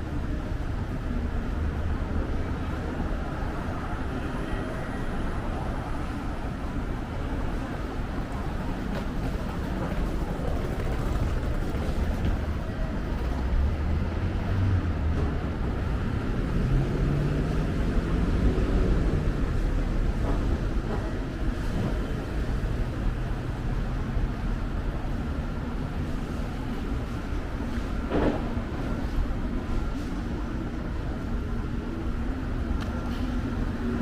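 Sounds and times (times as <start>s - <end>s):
low rumble of passing vehicles: 0.0s - 34.0s.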